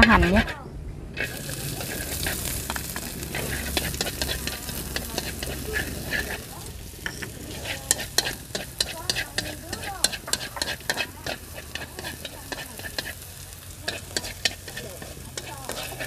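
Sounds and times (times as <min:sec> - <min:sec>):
scallions sizzling in hot oil: 0:01.2 - 0:16.0.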